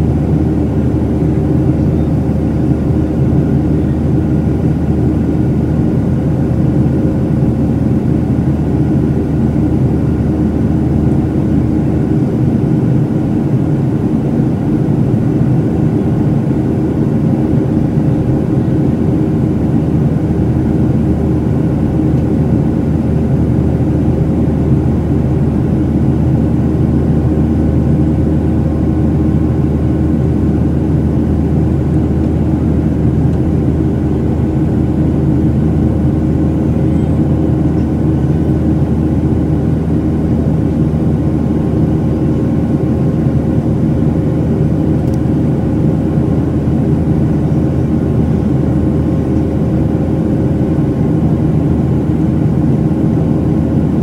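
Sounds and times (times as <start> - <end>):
jet engine drone: 0.0 - 54.0.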